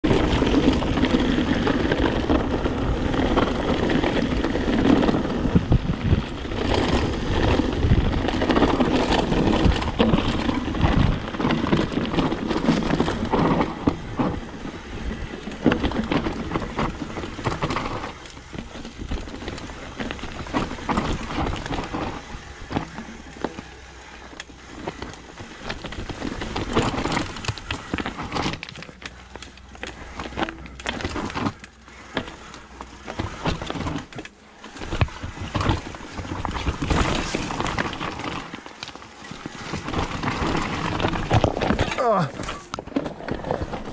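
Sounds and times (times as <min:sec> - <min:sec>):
bike rattling and knocking: 0:00.0 - 0:43.9
bike tyres crunching over stones: 0:00.0 - 0:43.9.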